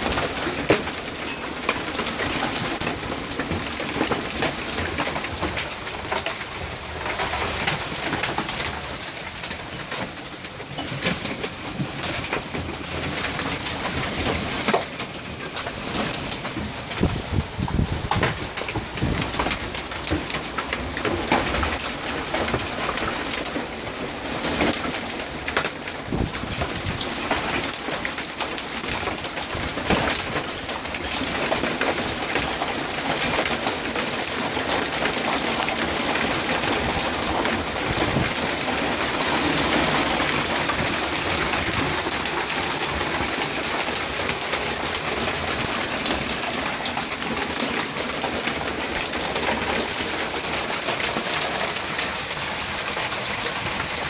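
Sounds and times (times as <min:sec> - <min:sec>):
hail pelting down: 0:00.0 - 0:54.0.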